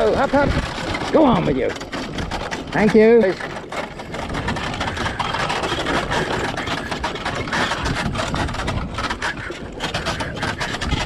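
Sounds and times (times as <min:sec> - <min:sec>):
metal carriage rattling: 0:00.0 - 0:11.0.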